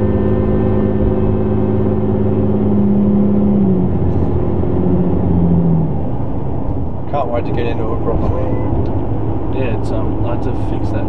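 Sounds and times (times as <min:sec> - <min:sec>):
engine droning under load: 0:00.0 - 0:11.0.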